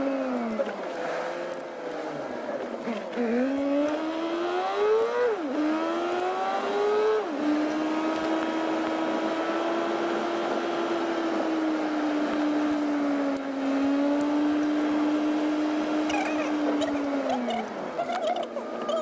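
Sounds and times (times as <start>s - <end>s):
car engine from inside cabin: 0.0s - 19.0s.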